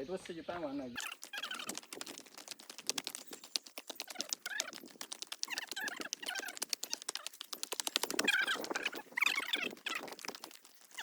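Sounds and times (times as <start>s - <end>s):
rapid clicking and crackling: 1.0s - 11.0s.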